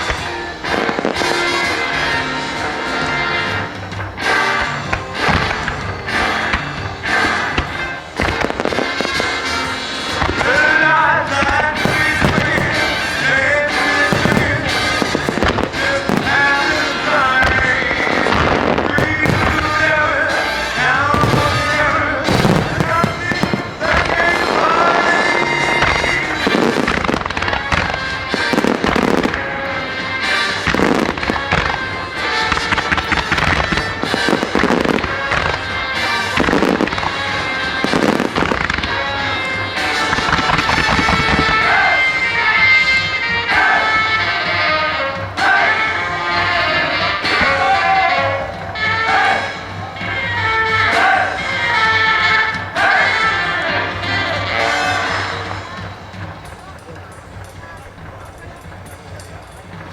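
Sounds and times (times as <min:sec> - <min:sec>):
fireworks bursting and cracking: 0:00.0 - 0:59.9
music over outdoor loudspeakers: 0:00.0 - 0:59.9.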